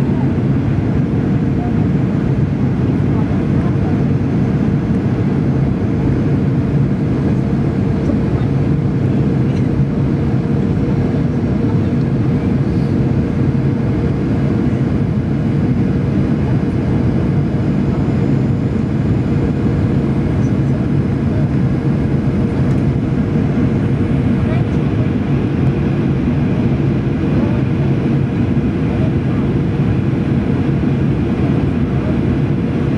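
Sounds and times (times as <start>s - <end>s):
constant cabin hum: 0.0s - 32.9s
jet engines and airflow drone: 0.0s - 32.9s.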